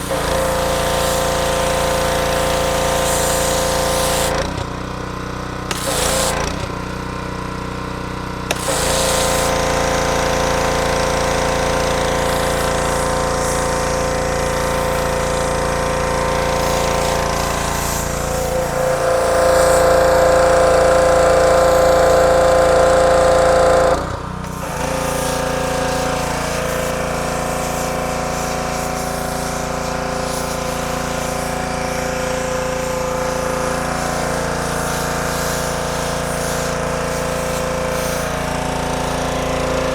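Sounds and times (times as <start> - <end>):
engine running: 0.0 - 4.8, 8.4 - 39.9.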